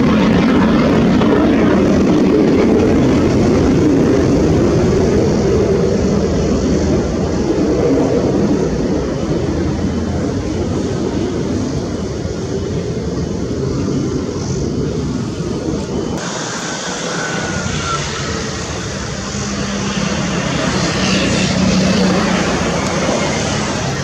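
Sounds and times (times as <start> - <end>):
fighter jet engine roaring: 0.0 - 24.0.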